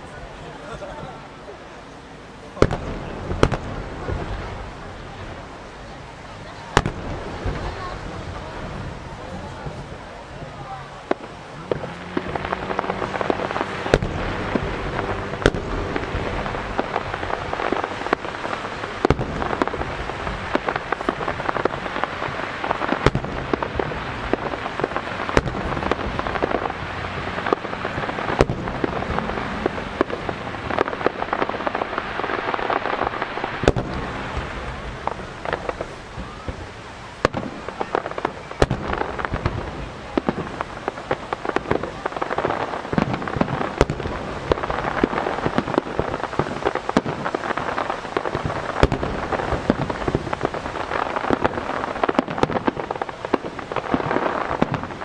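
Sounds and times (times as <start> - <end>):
fireworks bursting: 0.0 - 55.0
fireworks crackle: 0.0 - 55.0.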